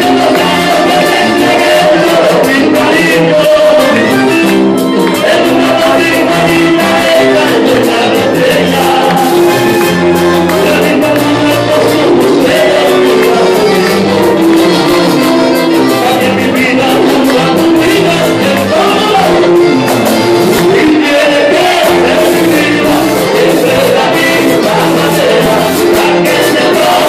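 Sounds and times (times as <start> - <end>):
button accordion: 0.0 - 27.0
electric guitar: 0.0 - 27.0
hand drum: 0.0 - 27.0
person singing on microphone: 0.0 - 27.0.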